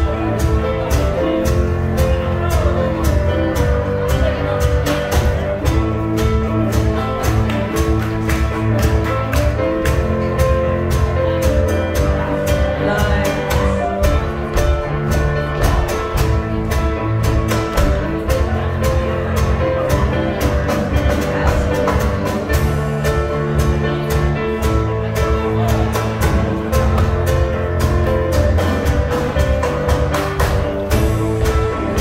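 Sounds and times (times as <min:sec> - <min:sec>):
live band playing dance tune: 0:00.0 - 0:32.0.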